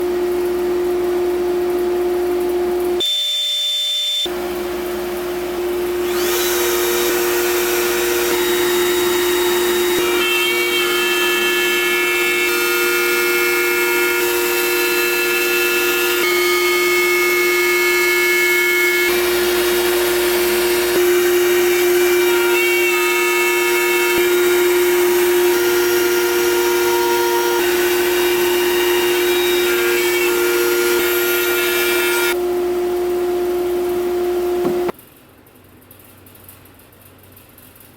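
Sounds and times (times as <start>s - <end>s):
router spindle whine: 4.1s - 34.9s
router bit cutting wood: 4.3s - 34.9s.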